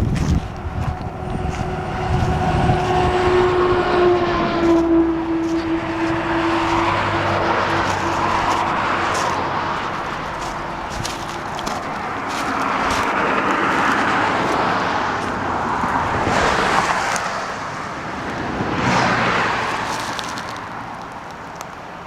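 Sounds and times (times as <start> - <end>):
vehicle engine passing: 0.0 - 21.0
rushing road noise: 0.0 - 22.0.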